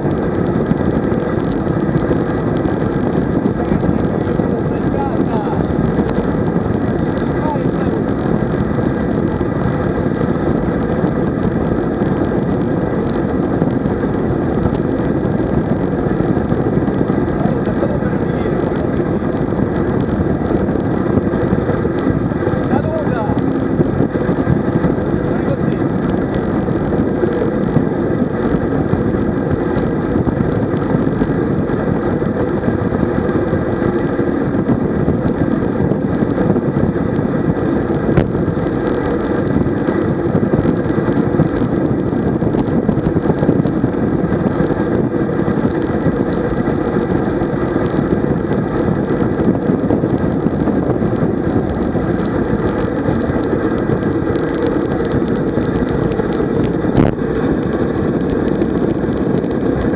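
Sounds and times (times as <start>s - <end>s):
bicycle tyre noise: 0.0s - 59.9s
wind buffeting microphone: 0.0s - 59.9s.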